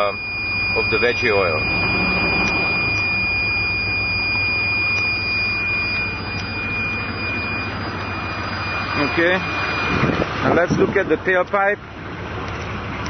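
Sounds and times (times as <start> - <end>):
steady high-pitched tone: 0.0 - 10.8
diesel engine idling: 0.0 - 13.0.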